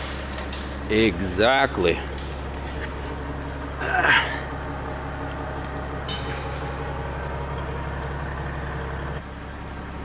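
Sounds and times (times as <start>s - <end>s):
machine droning: 0.0s - 10.0s.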